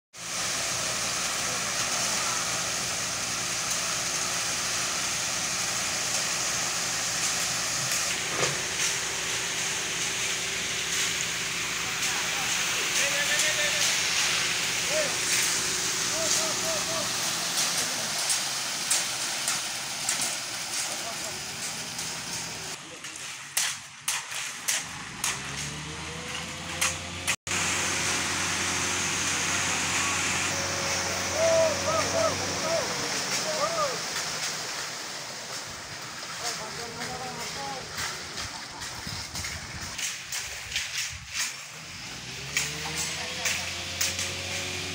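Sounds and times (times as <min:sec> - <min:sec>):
concrete mixer truck running: 0:00.2 - 0:44.9.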